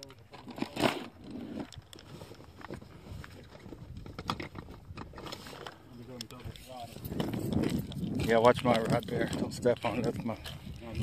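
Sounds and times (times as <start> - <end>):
plastic tackle boxes clicking: 0.0 - 10.4.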